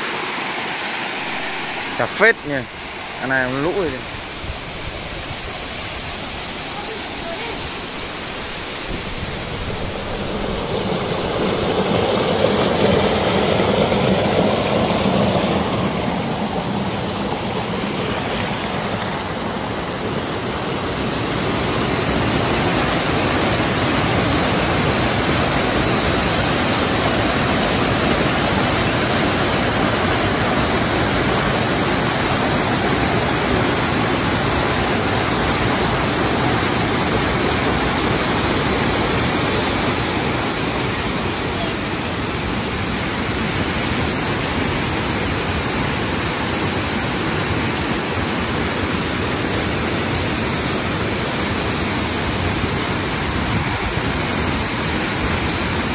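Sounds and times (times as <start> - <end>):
waterfall rushing over rock: 0.0 - 55.9.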